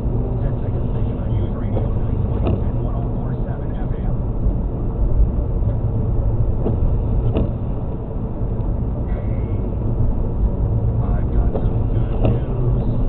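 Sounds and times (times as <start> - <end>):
car driving on wet road: 0.0 - 13.0.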